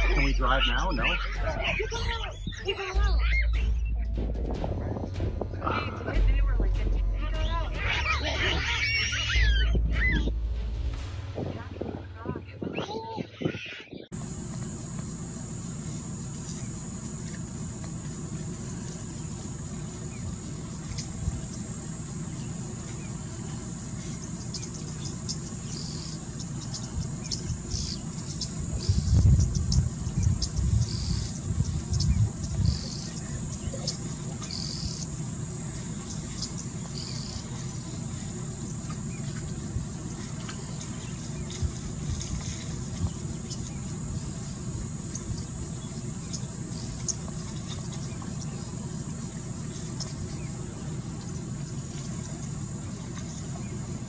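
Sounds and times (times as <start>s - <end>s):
bird chirps: 0.0s - 4.2s, 6.2s - 10.3s, 18.6s - 54.0s
loud low thumps and rumbles: 0.0s - 26.2s, 26.9s - 49.6s
insects droning: 0.0s - 54.0s.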